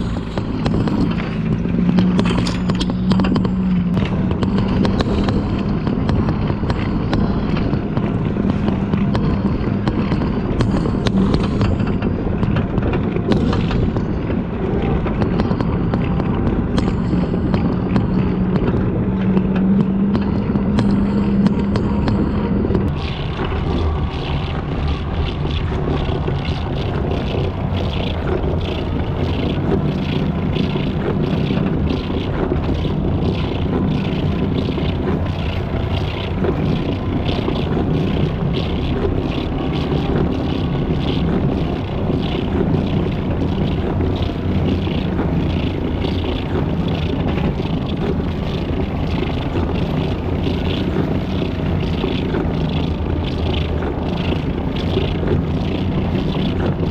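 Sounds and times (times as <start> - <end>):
regular ticking: 0.0 - 56.9
truck engine drone: 0.0 - 56.9.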